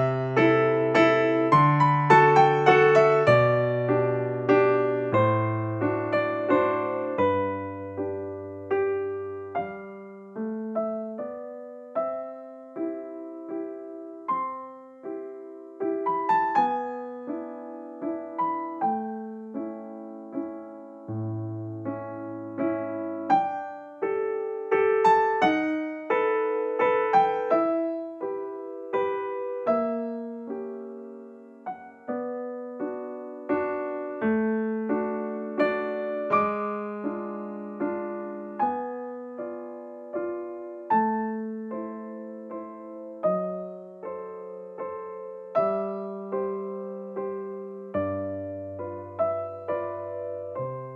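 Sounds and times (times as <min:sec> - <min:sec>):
slow piano music: 0:00.0 - 0:50.9.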